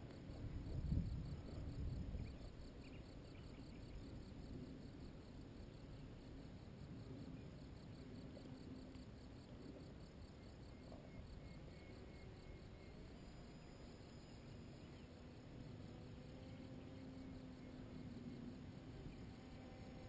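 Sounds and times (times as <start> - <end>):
crickets chirping: 0.0 - 20.0
distant paramotor engine drone: 0.0 - 20.0.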